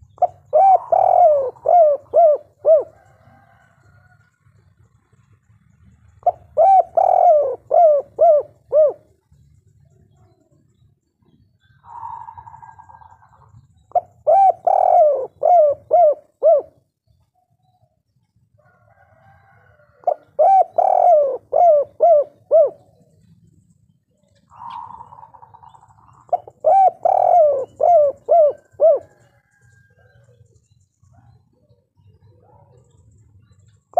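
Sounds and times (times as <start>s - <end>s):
dove cooing: 0.0s - 17.2s, 18.7s - 33.9s.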